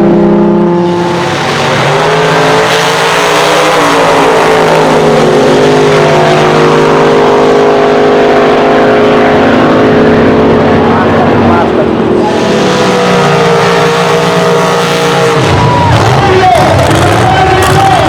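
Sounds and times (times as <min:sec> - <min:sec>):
racing car engine roaring: 0:00.0 - 0:18.0.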